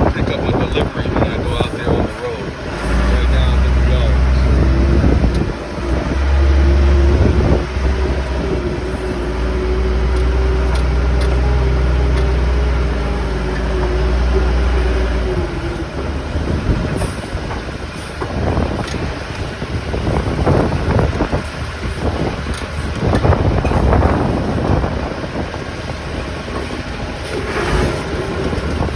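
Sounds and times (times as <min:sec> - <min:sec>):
forklift engine running: 0:00.0 - 0:28.9
wind buffeting microphone: 0:00.0 - 0:28.9.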